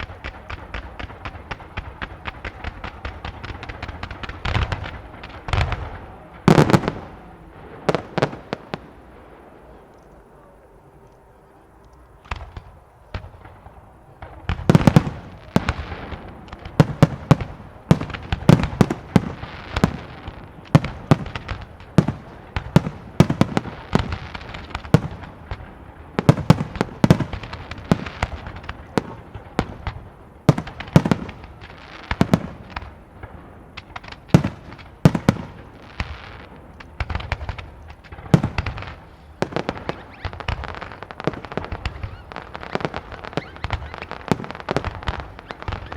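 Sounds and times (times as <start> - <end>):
fireworks bursts and bangs: 0.0 - 9.9, 12.2 - 45.9.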